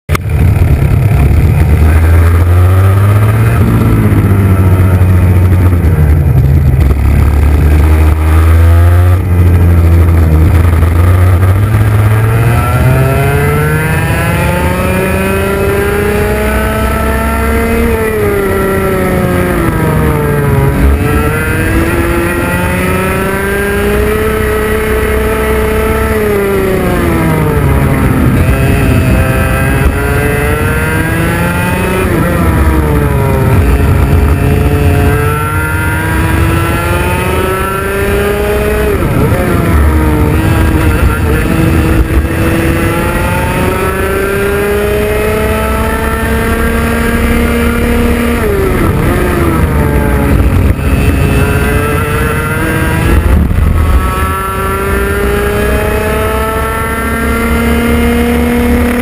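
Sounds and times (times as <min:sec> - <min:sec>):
heavy low rumble: 0:00.1 - 0:24.6, 0:25.2 - 0:55.4
kart engine at racing speed: 0:00.1 - 0:59.0.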